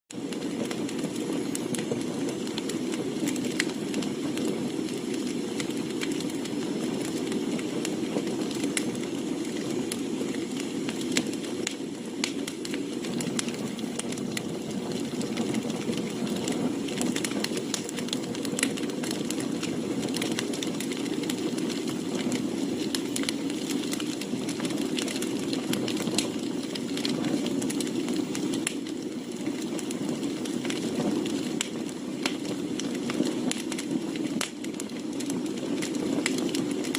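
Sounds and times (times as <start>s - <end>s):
firewood crackling and popping: 0.1s - 36.9s
fire low rush: 0.2s - 36.9s.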